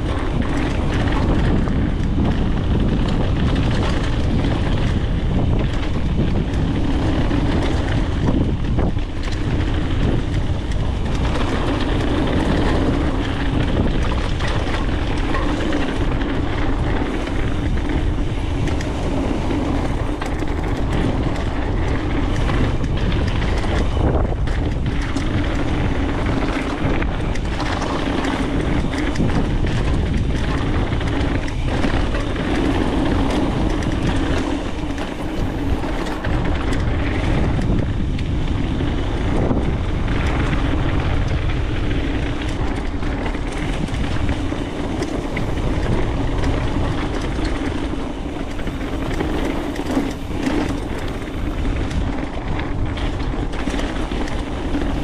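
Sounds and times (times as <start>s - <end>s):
bike rattling over rough ground: 0.0s - 55.0s
bike tyre noise on dirt: 0.0s - 55.0s
wind buffeting microphone: 0.0s - 55.0s.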